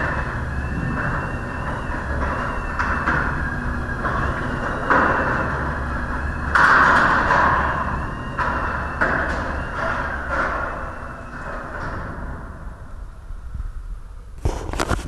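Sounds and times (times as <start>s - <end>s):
garage door rattling on track: 0.0s - 13.5s
garage door opener motor hum: 0.0s - 14.3s.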